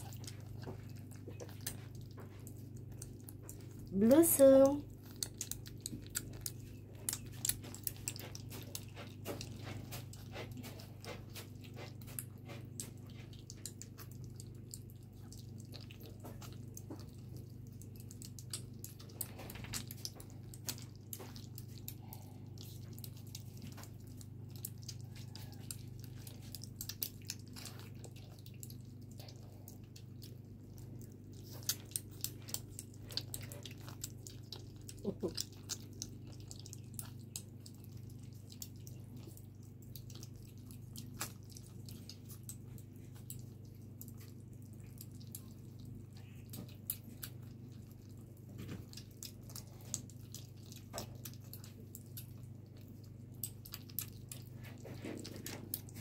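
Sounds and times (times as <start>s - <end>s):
kittens chewing wet food: 0.0s - 56.0s
low steady hum: 0.0s - 56.0s.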